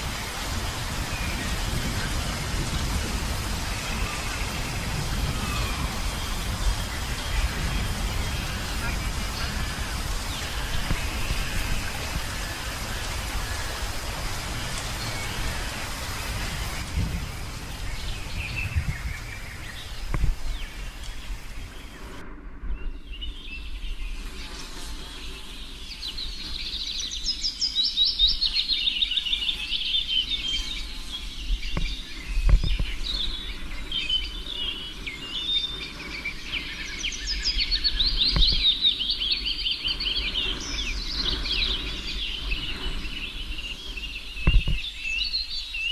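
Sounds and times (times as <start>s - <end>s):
steady rushing noise: 0.0s - 45.9s
wild birds singing: 0.0s - 45.9s.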